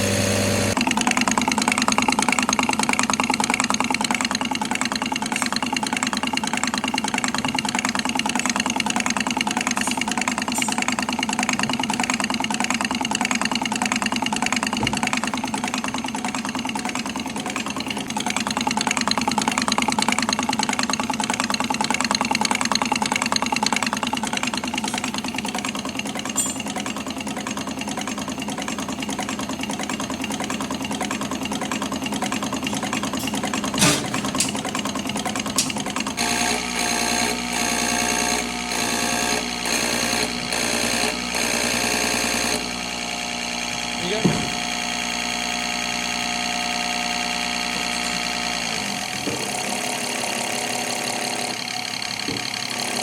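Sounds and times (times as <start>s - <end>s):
rhythmic mechanical clatter: 0.0s - 53.0s.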